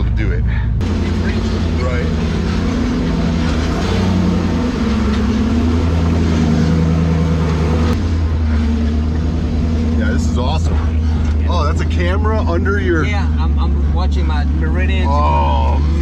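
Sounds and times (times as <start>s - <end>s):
off-road vehicle engine at low revs: 0.0s - 16.0s.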